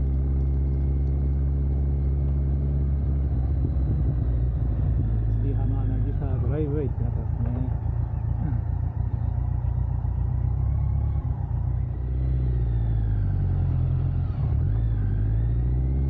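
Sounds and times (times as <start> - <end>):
motorcycle engine drone: 0.0 - 16.0.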